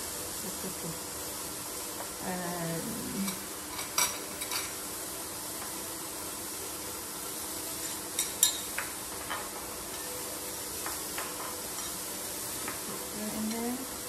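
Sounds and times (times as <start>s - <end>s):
steak sizzling in a frying pan: 0.0s - 14.0s.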